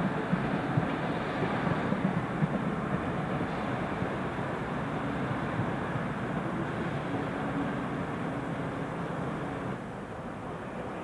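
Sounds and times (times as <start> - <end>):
trains rumbling: 0.0 - 11.0.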